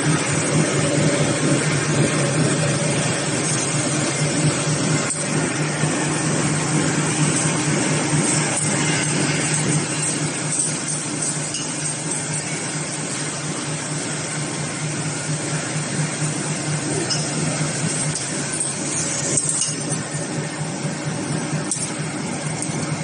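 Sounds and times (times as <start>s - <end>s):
machine low drone: 0.0s - 23.0s.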